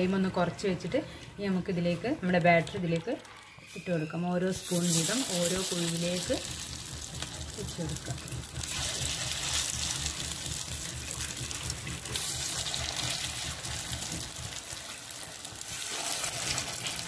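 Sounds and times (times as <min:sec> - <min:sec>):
batter sizzling in hot oil: 0:02.2 - 0:17.0.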